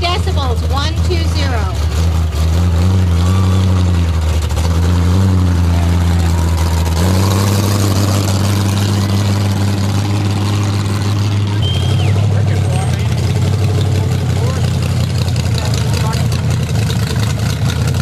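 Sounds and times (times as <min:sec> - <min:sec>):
car engine idling loudly: 0:00.0 - 0:18.0.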